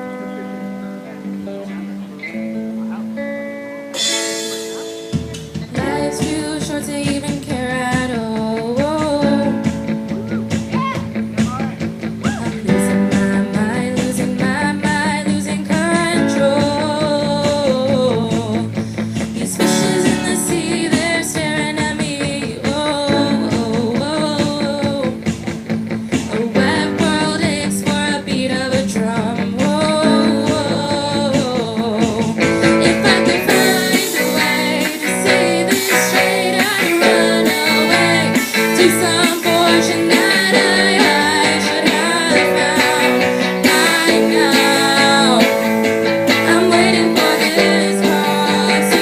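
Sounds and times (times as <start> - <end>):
rock song with guitar: 0.0 - 49.0
person singing: 5.6 - 25.6, 26.2 - 49.0.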